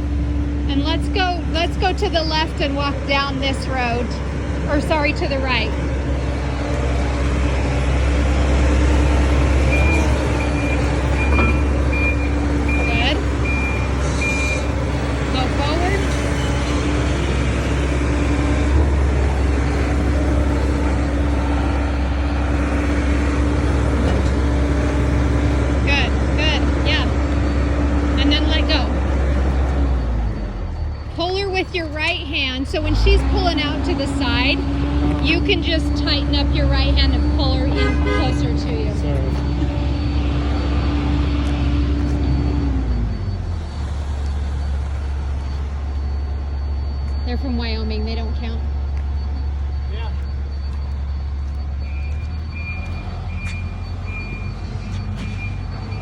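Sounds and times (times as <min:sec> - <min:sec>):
steady low rumble: 0:00.0 - 0:54.8
vehicle engine running: 0:00.0 - 0:56.0.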